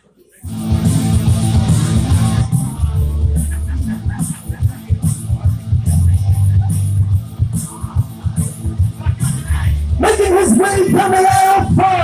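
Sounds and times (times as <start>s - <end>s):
loud rock music: 0.4s - 12.0s.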